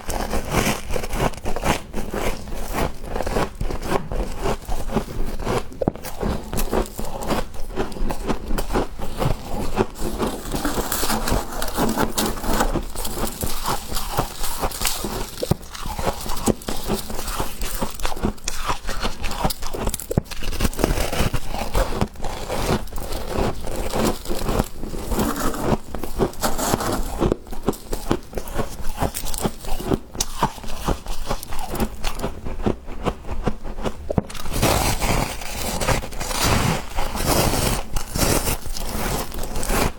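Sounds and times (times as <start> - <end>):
frost being chewed crunching: 0.0 - 39.9.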